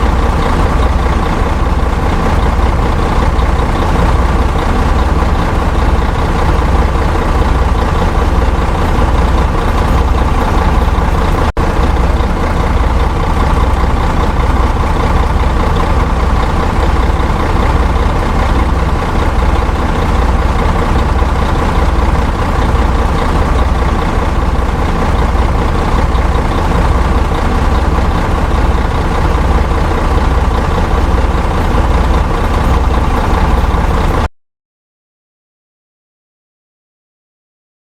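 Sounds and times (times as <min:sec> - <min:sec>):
bus engine idling: 0:00.0 - 0:34.3.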